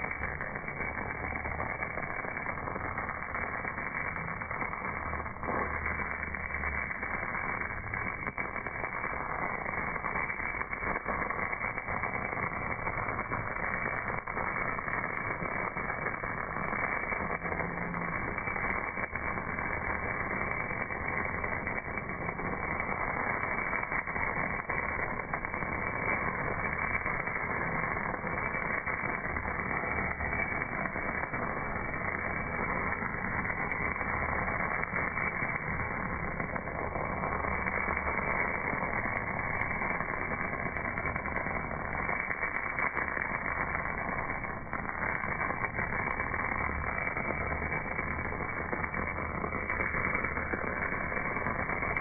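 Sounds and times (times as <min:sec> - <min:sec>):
welding arc crackling hiss: 0:00.0 - 0:52.0.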